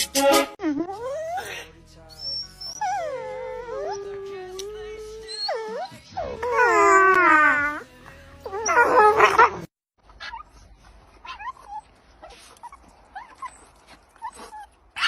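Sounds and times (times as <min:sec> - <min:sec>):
dog yipping and whimpering: 0:00.9 - 0:07.8, 0:08.4 - 0:15.0
dog whining and howling: 0:00.9 - 0:10.6, 0:11.2 - 0:15.0.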